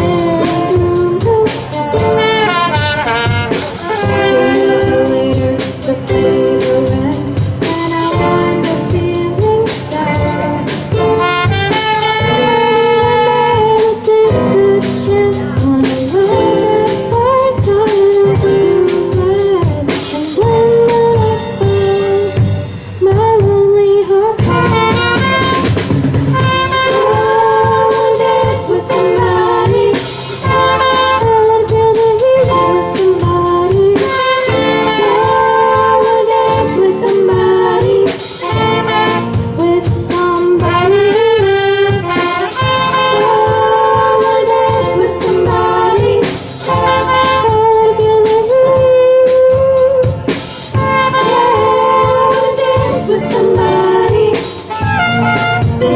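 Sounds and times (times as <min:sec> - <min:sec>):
band playing live: 0:00.0 - 0:55.9.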